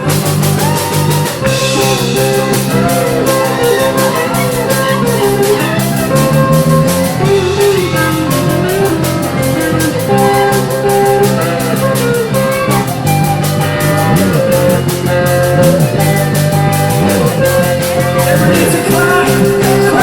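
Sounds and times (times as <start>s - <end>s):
guitar: 0.0s - 20.0s
steady drum beat: 0.0s - 20.0s.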